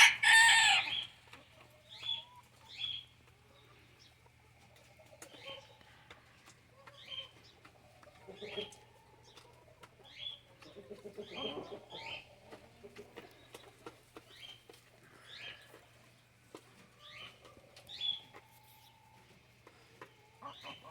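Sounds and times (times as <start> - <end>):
chickens calling: 0.0 - 20.9.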